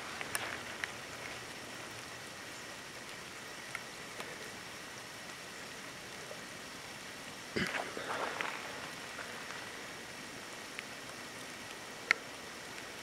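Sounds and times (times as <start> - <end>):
light rain falling: 0.0 - 13.0
raindrops ticking: 0.0 - 13.0.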